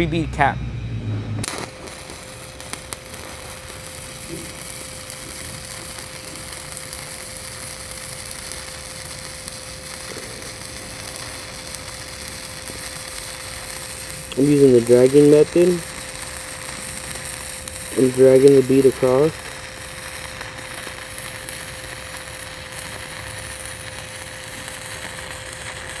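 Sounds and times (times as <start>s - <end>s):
welding arc crackling sizzle: 1.1s - 26.0s.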